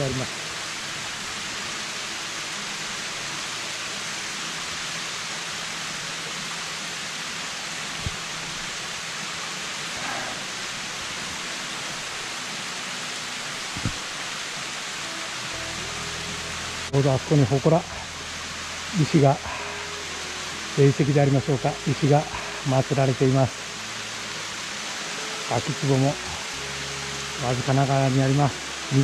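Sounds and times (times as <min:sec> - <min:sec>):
waterfall rushing into pool: 0:00.0 - 0:29.0.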